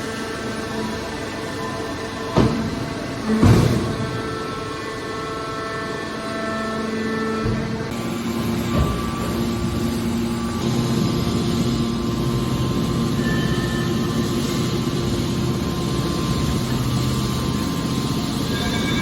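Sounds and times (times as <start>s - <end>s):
machine hum and low drone: 0.0s - 19.0s.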